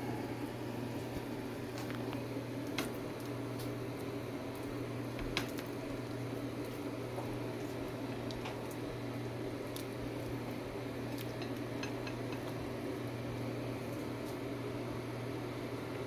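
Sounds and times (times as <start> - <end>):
constant low hum: 0.0 - 16.0
pot of water simmering: 0.0 - 16.0.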